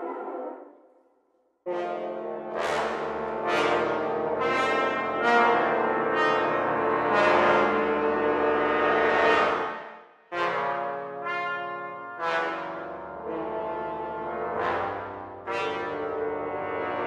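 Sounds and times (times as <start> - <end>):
brass ensemble low chord: 1.7 - 17.0.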